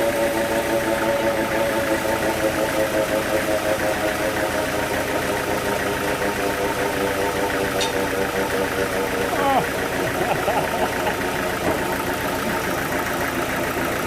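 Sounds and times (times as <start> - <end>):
sawmill engine humming: 0.0 - 14.0.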